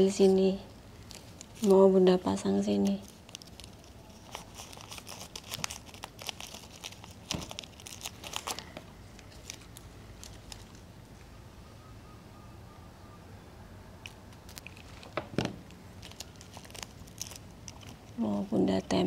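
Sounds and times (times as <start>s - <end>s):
plastic wrappers crinkling: 0.0s - 10.9s, 14.0s - 19.0s.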